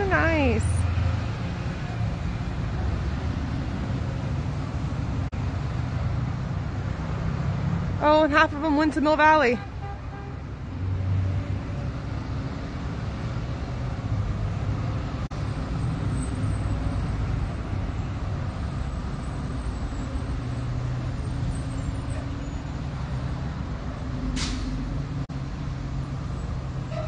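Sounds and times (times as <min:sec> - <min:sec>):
buses driving past: 0:00.0 - 0:27.0
road noise: 0:00.0 - 0:27.0.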